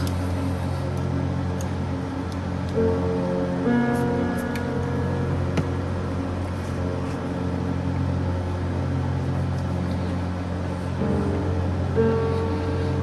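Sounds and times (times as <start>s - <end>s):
ambient music drone: 0.0s - 13.0s.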